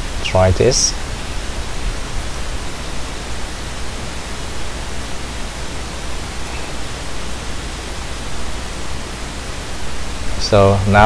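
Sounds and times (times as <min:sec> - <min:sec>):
low hum: 0:00.0 - 0:11.0
steady hiss: 0:00.0 - 0:11.0.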